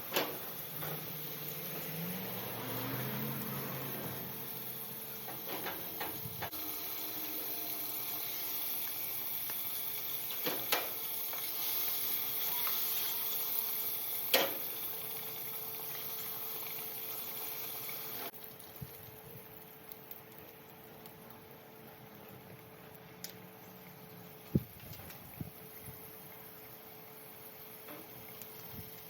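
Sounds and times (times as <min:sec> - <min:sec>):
chicken sizzling in hot oil: 0:00.0 - 0:29.0.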